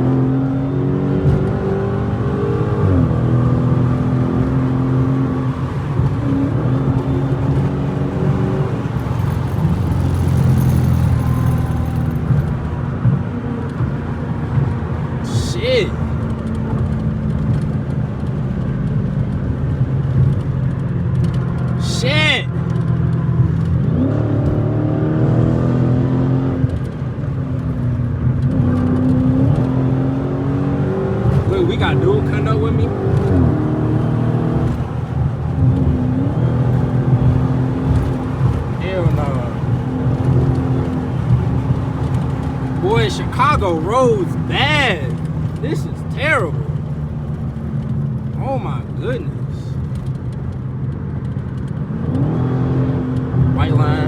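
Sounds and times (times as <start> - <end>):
car engine droning in cabin: 0.0 - 54.0.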